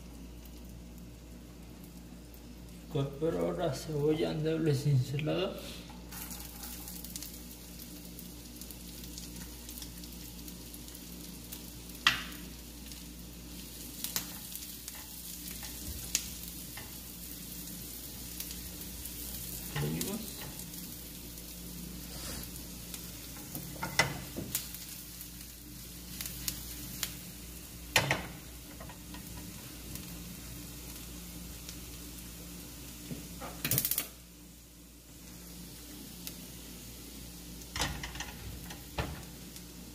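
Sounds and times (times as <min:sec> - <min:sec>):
onion sizzling in butter: 0:00.0 - 0:39.9.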